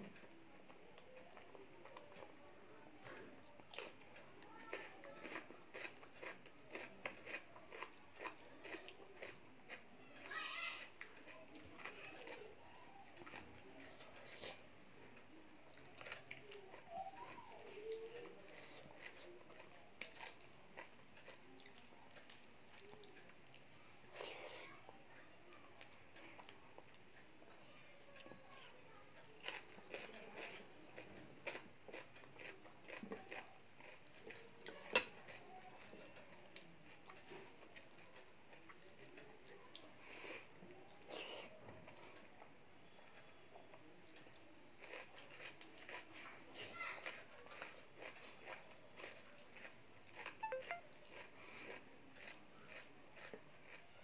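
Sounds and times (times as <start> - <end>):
quiet chewing: 0.0 - 54.0.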